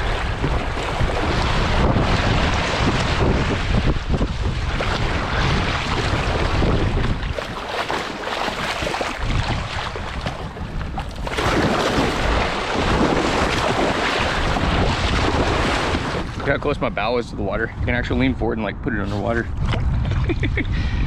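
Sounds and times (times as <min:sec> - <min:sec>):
water sounds: 0:00.0 - 0:18.5
wind buffeting microphone: 0:00.0 - 0:21.0.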